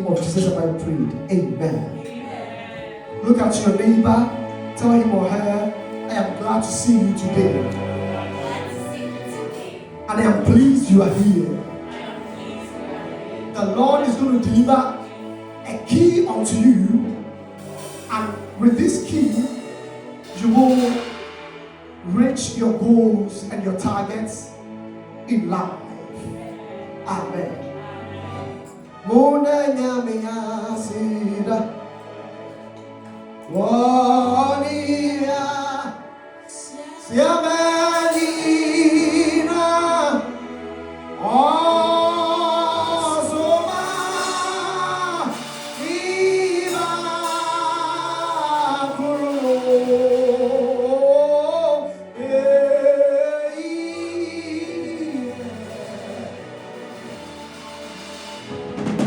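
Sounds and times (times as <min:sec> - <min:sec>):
instrumental accompaniment: 0:00.0 - 0:59.0
voices singing gospel: 0:00.0 - 0:59.0.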